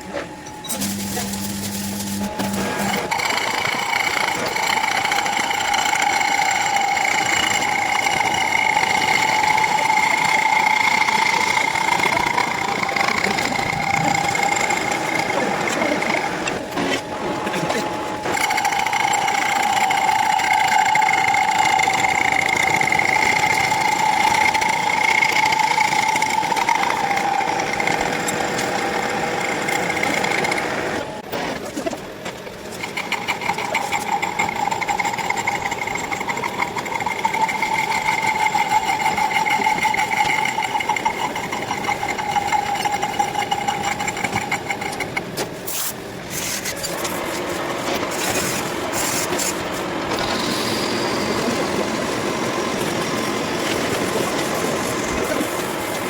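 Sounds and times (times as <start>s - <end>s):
metalworking machine whining: 0.0s - 56.0s.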